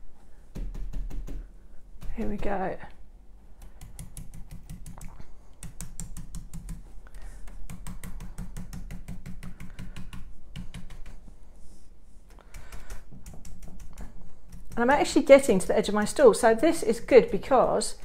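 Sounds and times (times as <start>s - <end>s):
stencil brush tapping: 0.5s - 2.4s, 3.6s - 11.3s, 12.2s - 17.9s.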